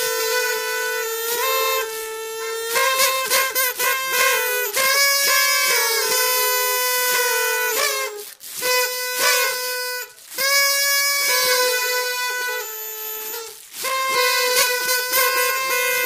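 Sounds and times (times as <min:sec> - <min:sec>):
party trumpets blowing: 0:00.0 - 0:16.0.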